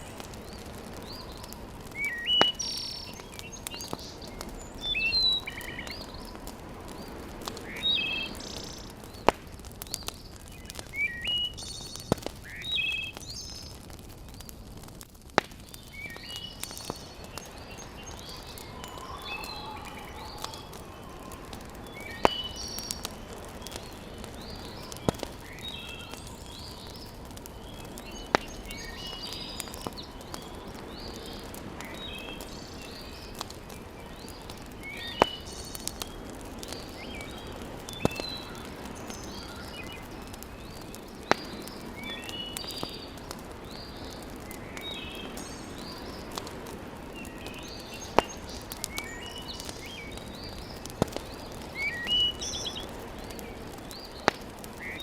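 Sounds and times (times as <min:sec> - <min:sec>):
sharp pops of fire: 0:00.0 - 0:55.0
small birds chirping: 0:00.0 - 0:55.0
wood fire crackling: 0:00.0 - 0:55.0.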